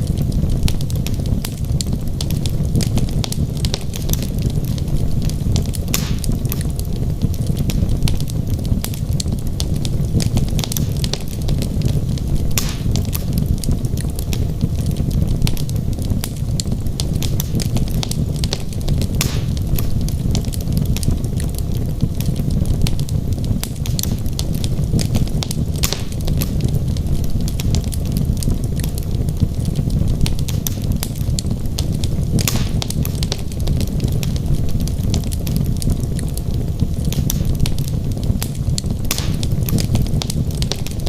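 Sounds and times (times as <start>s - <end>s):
logs burning with crackles and pops: 0.0s - 41.0s.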